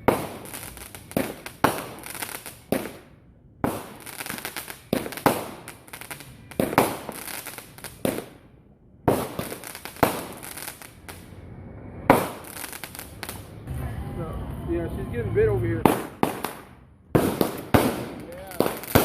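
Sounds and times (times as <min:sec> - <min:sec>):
firework bangs: 0:00.0 - 0:08.4, 0:09.0 - 0:11.4, 0:12.0 - 0:19.0
fireworks crackling: 0:00.0 - 0:19.0.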